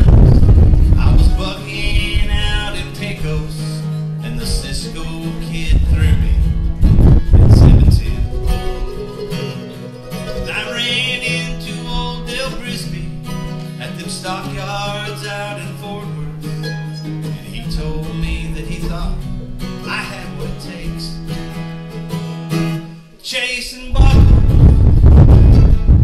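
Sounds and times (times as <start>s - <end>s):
acoustic guitar: 0.0s - 26.0s
mandolin picking: 0.5s - 23.0s.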